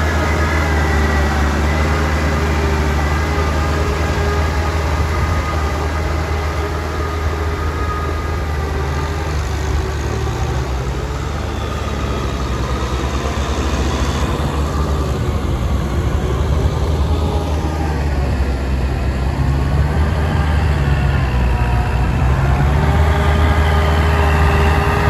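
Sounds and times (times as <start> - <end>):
tractor diesel engine droning: 0.0 - 25.0.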